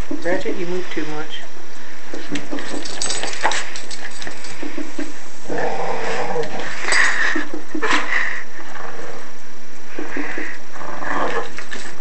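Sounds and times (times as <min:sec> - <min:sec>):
dogs growling: 0:02.1 - 0:12.0.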